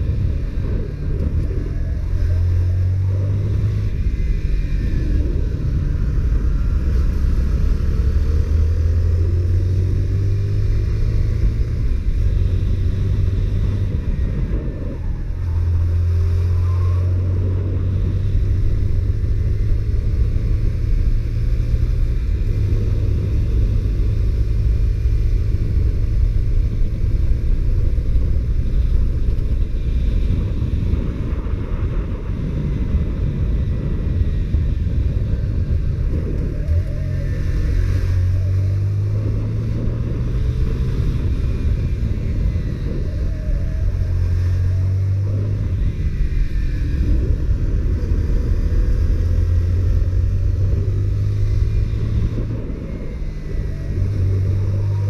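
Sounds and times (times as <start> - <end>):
motorcycle engine while riding: 0.0 - 55.0.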